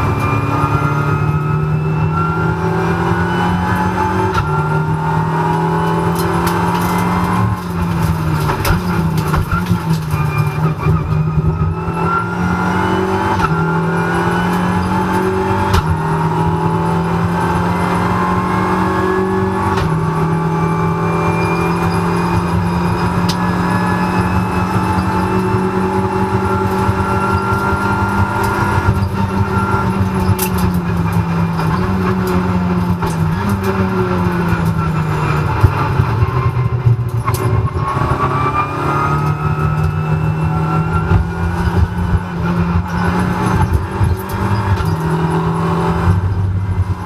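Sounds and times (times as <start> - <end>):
race car engine at high revs: 0.0 - 47.0.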